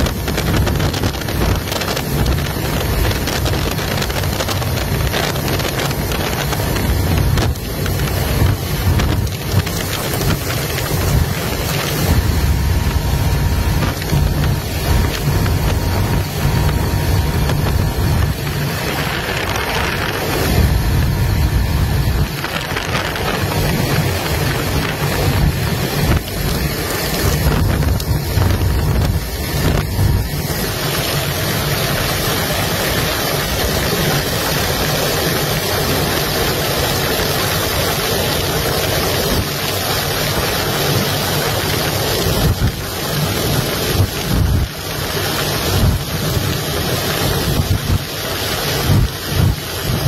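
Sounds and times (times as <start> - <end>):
aircraft cabin noise: 0.0 - 50.0
wind buffeting microphone: 0.0 - 50.0.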